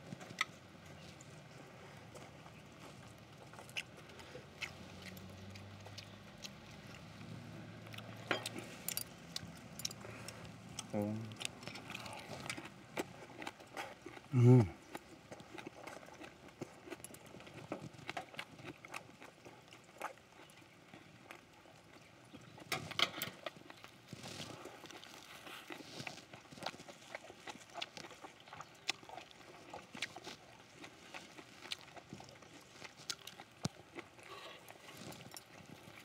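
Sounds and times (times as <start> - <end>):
chewing and mouth clicks: 0.0 - 36.0.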